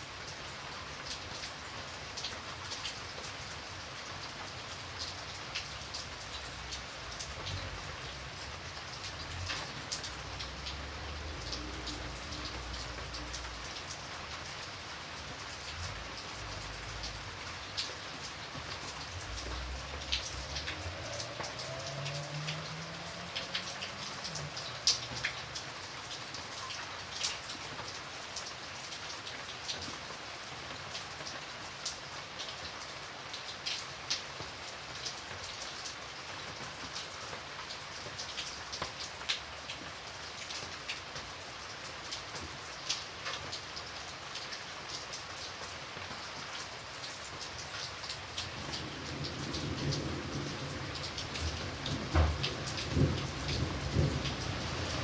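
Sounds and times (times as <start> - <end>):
rain falling: 0.0 - 55.0
raindrops ticking on a surface: 0.0 - 55.0.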